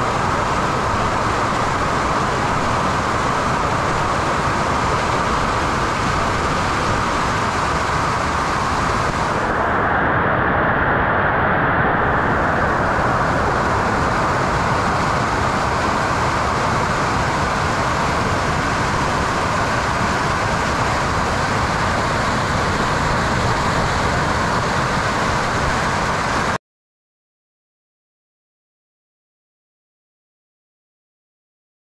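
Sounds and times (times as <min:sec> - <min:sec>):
water rushing down dam overflow: 0:00.0 - 0:26.6.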